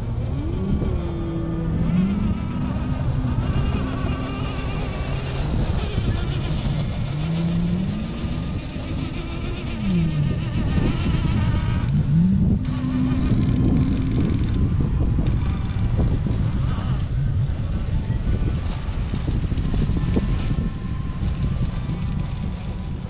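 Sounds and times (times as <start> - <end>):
electric motor and gearbox whining: 0.0 - 23.0
steady low rumble: 0.0 - 23.0.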